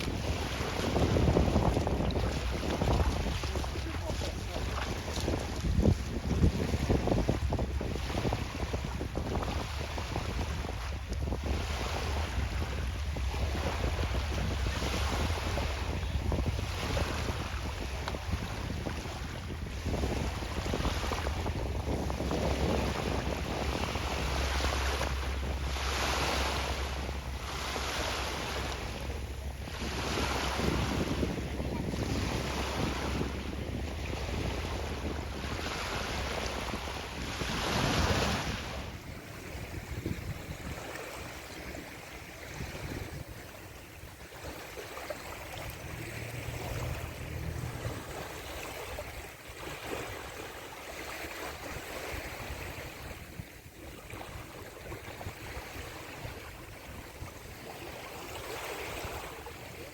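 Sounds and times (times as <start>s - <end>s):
sea waves and rushing water: 0.0s - 59.9s
wind buffeting the microphone: 0.0s - 59.9s.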